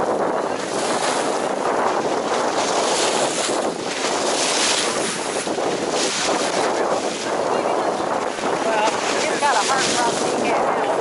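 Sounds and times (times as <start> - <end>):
water splashing against a seawall: 0.0 - 11.0
wind buffeting the microphone: 0.0 - 11.0.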